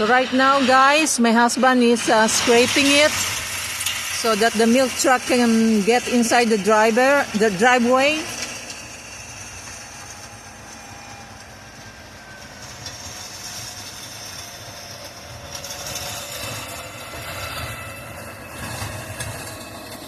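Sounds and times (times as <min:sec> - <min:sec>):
tractor engine rumbling: 0:00.0 - 0:20.0.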